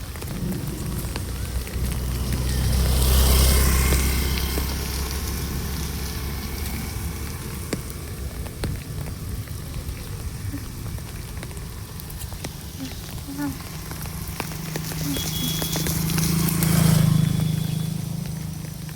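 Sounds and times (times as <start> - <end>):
low rumble with rushing hiss: 0.0 - 18.9
rain falling: 0.0 - 18.9.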